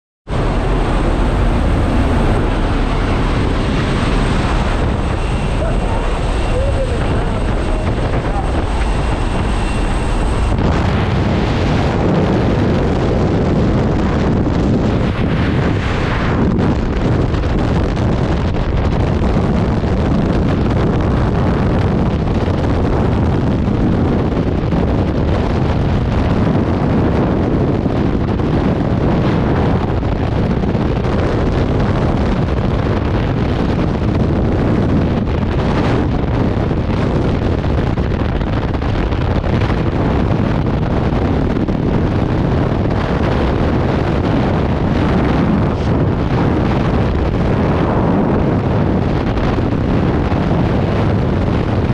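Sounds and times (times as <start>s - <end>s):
wind rushing over microphone: 0.3s - 51.9s.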